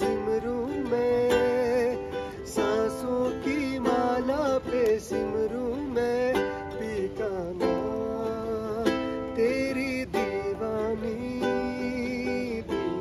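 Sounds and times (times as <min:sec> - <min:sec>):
man singing: 0:00.0 - 0:13.0
ukulele strumming: 0:00.0 - 0:13.0.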